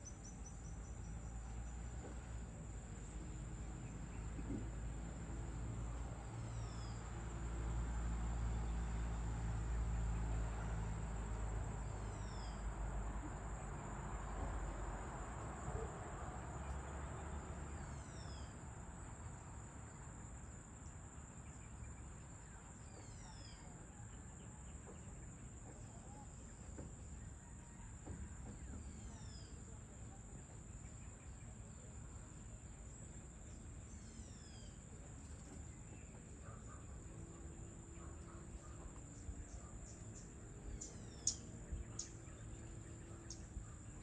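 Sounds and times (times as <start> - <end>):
crickets droning: 0.0 - 44.0.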